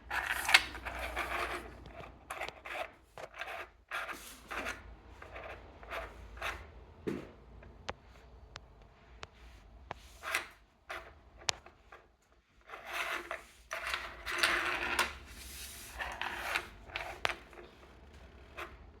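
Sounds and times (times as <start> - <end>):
handling rubbing and rustling: 0.0 - 6.6, 9.6 - 19.0.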